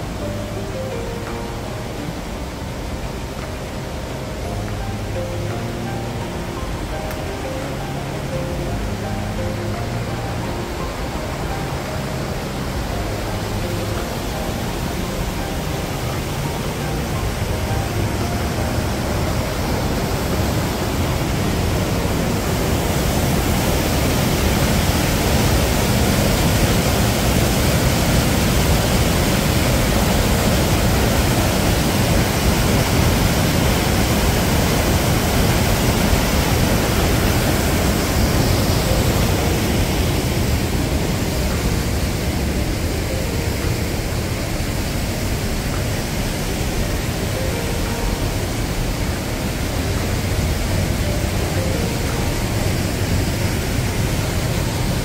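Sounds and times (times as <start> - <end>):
river rushing in rocky gorge: 0.0 - 55.0.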